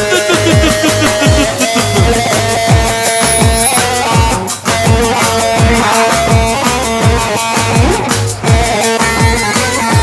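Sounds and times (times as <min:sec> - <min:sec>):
held melody line: 0:00.0 - 0:10.0
deep drum beat: 0:00.2 - 0:10.0.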